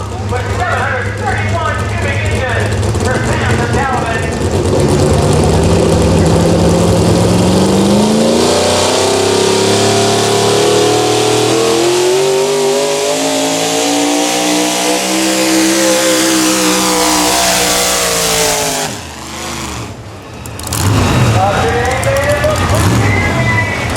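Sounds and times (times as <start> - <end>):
truck engine revving hard: 0.0 - 23.9.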